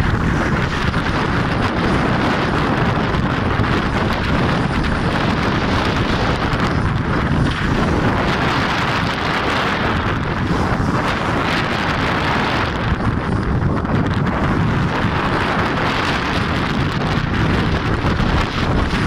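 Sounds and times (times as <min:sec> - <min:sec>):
water breaking along hull: 0:00.0 - 0:19.0
wind rumbling on microphone: 0:00.0 - 0:19.0.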